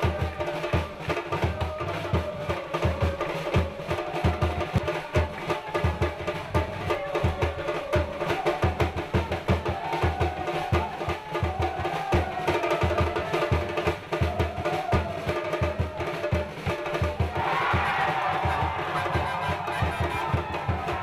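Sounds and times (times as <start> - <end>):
steady drum beat: 0.0 - 21.0.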